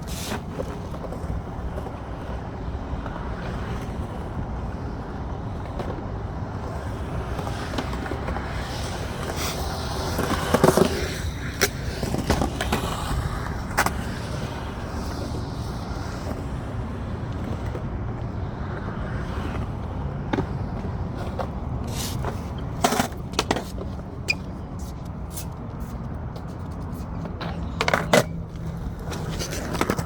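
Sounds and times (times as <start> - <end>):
skateboard clacks: 0.0 - 30.0
skateboard rolling on concrete: 0.0 - 30.0.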